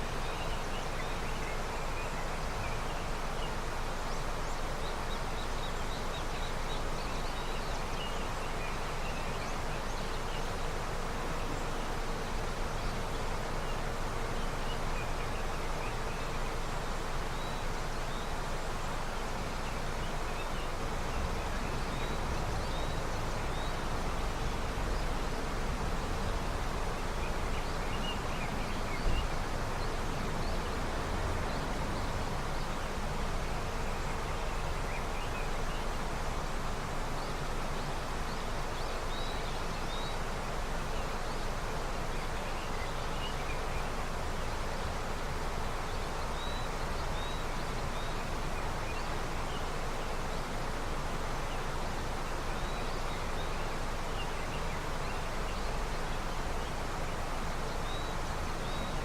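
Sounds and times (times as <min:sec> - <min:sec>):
river rushing: 0:00.0 - 0:59.0
small birds chirping: 0:00.0 - 0:59.0.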